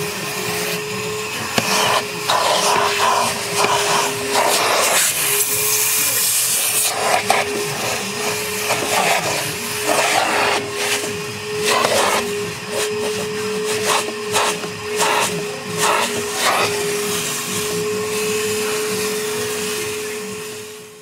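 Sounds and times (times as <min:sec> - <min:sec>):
vacuum-blower motor whine: 0:00.0 - 0:21.0.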